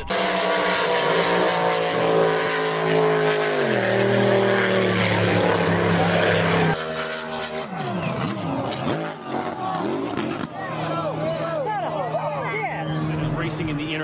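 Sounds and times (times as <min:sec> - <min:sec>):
boat engine running flat out: 0:00.0 - 0:14.0.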